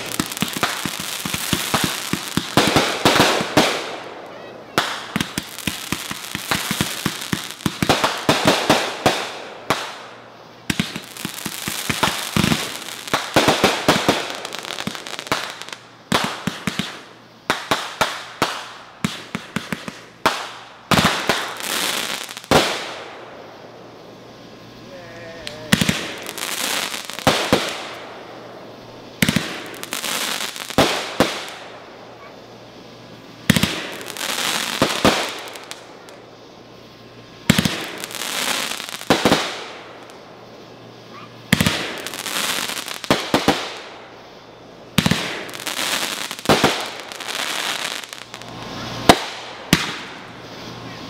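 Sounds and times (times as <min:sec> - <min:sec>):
fireworks bangs: 0:00.0 - 0:51.0
fireworks crackling: 0:00.0 - 0:51.0.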